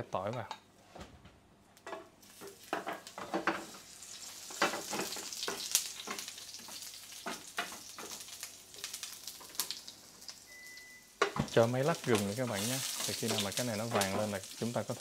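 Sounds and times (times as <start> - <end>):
garlic sizzling in oil: 2.2 - 15.0.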